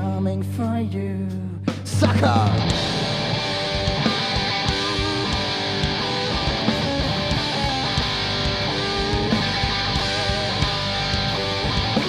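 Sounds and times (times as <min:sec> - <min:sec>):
drums: 0:00.0 - 0:12.0
distorted electric guitar: 0:01.6 - 0:12.0.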